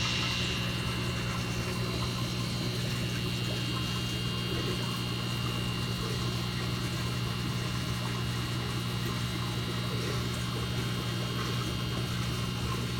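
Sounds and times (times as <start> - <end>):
aquarium pump humming: 0.0 - 12.9.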